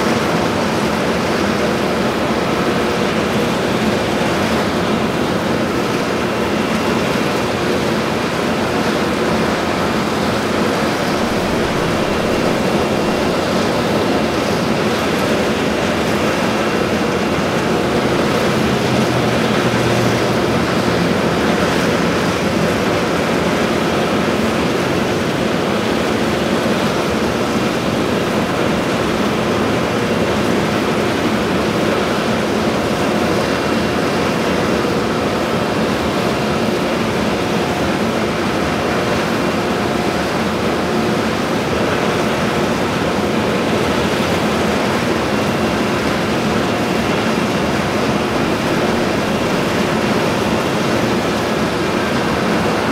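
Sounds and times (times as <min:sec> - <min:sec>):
exhaust fan rushing air: 0:00.0 - 0:52.9.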